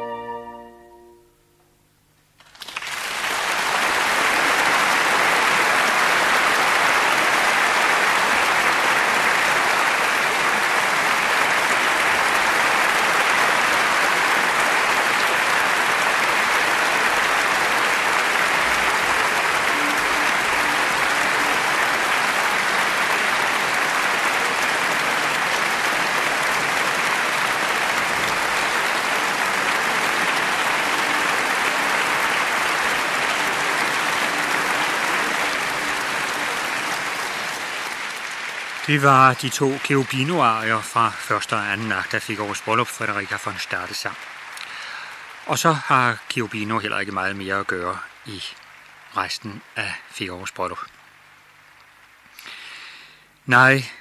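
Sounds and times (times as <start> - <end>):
audience applause: 2.4 - 50.8, 51.4 - 54.0.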